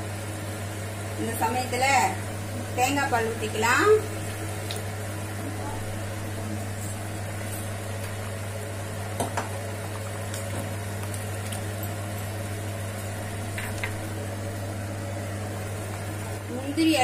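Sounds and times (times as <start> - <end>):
gravy bubbling and sizzling: 0.0 - 17.0.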